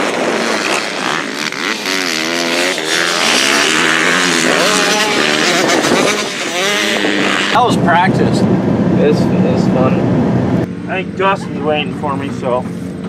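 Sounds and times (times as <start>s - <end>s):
motocross bike engine revving: 0.0s - 12.7s.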